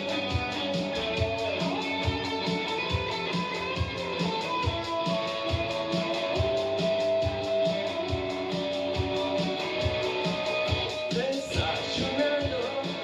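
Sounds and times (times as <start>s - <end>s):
electric guitar notes ringing: 0.0s - 13.0s
quick hi-hat ticks: 0.0s - 13.0s.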